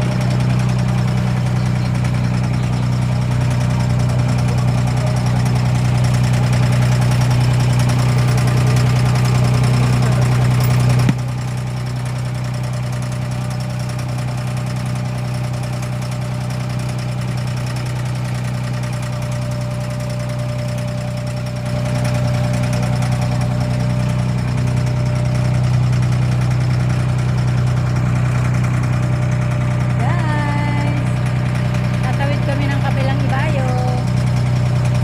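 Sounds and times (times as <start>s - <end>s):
boat engine humming: 0.0s - 35.0s.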